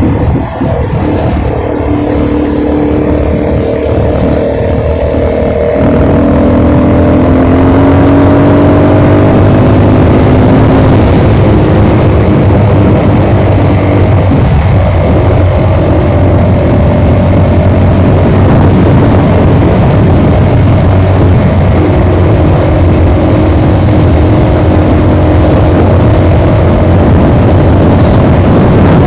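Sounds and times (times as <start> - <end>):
engine rising in pitch: 0.0 - 29.0
wind rumble on microphone: 0.0 - 29.0.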